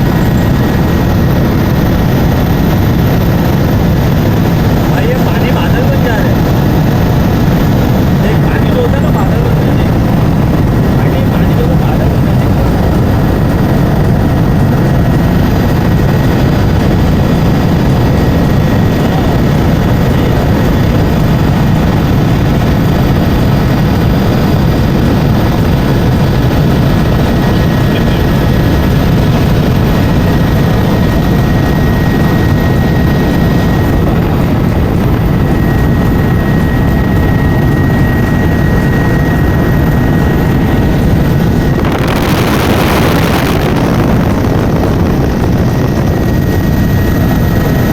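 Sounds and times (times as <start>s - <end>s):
helicopter engine and rotor: 0.0s - 47.9s
thin steady whine: 0.0s - 47.9s.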